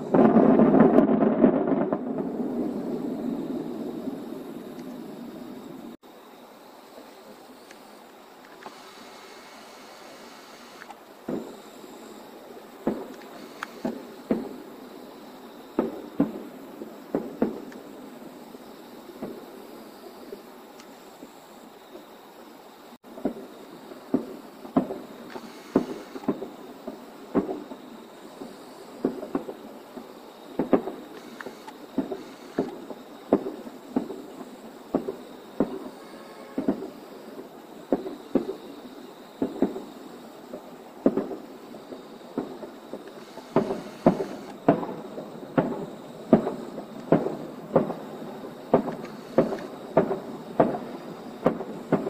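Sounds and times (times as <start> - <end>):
firework shells bursting: 0.0 - 6.0, 7.6 - 21.1, 23.1 - 52.0.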